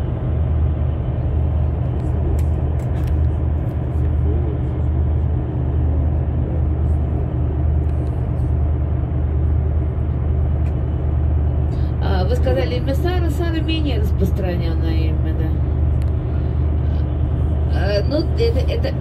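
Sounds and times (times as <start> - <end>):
coach engine and road rumble: 0.0 - 19.0.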